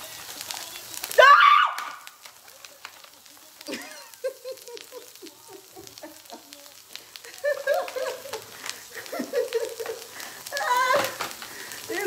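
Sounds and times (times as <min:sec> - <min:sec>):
butter sizzling in skillet: 0:00.0 - 0:12.0.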